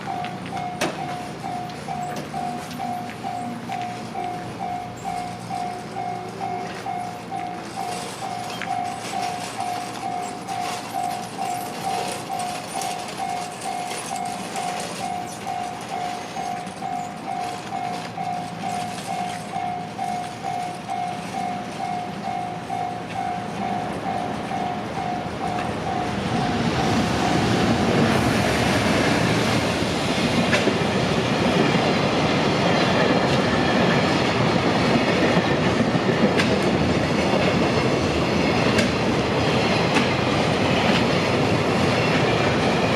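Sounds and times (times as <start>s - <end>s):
level-crossing alarm bell ringing: 0.0s - 30.1s, 31.0s - 36.3s, 37.0s - 42.9s
train wheels clattering over rails: 0.0s - 42.9s.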